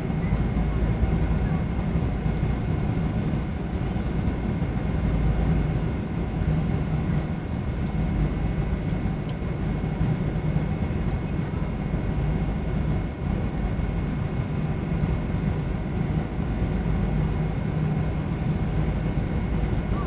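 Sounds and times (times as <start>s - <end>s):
airplane cabin roar: 0.0s - 20.0s
faint steady whine: 0.0s - 20.0s.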